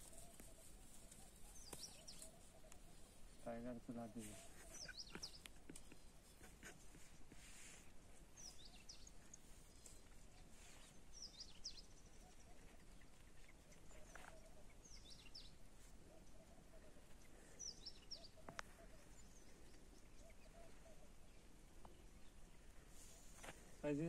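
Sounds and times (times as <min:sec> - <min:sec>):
faint bird chirps: 0:00.0 - 0:24.0.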